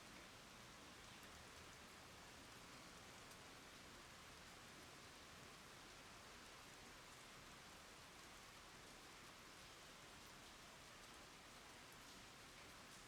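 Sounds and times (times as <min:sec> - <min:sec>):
rain on ground and water: 0:00.0 - 0:13.0.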